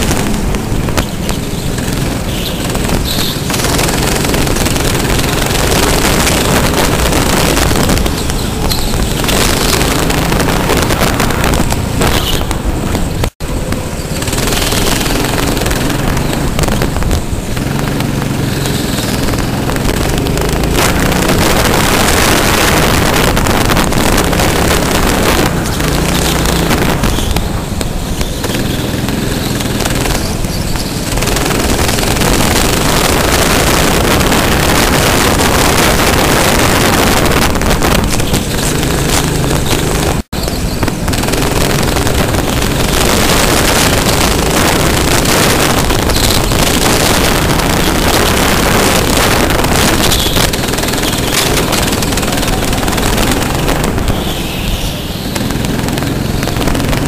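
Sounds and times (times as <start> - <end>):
go-kart engine racing: 0.0 - 57.0
wind rush on microphone: 0.0 - 57.0.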